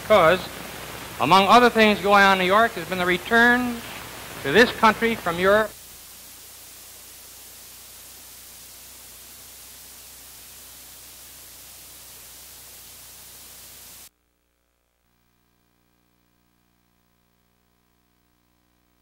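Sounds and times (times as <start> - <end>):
videotape static hiss: 0.0 - 19.0.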